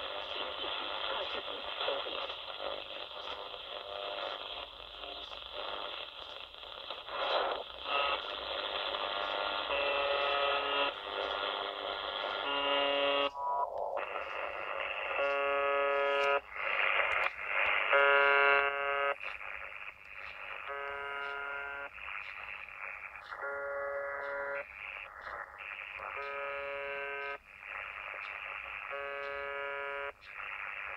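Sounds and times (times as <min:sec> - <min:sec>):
harsh radio buzz: 0:00.0 - 0:30.9
shortwave radio static: 0:00.0 - 0:30.9.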